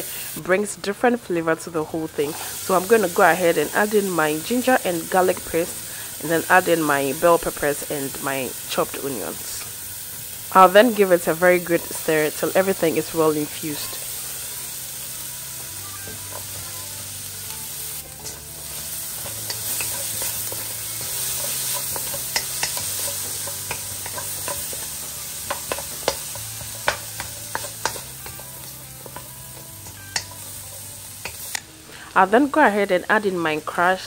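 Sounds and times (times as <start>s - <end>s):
vegetables sizzling in a wok: 0.0s - 34.0s.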